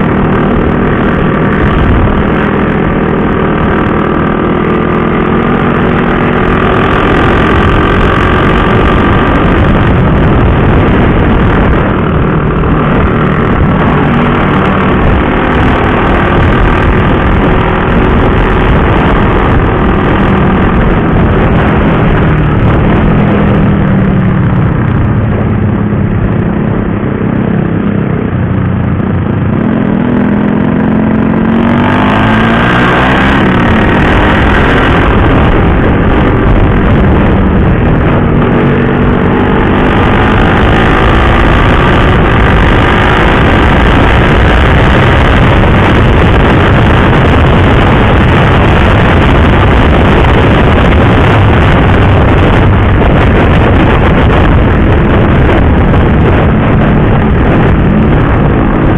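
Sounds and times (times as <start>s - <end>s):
motorcycle engine: 0.0s - 58.9s
wind and road noise: 0.0s - 58.9s.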